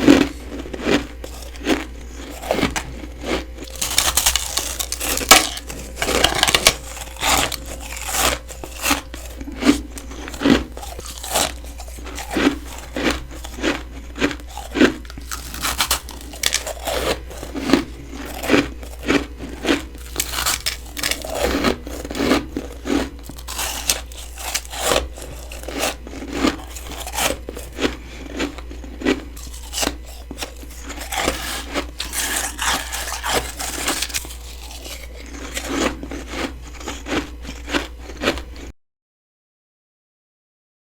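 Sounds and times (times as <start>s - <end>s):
crunching bites into frost: 0.0s - 38.7s.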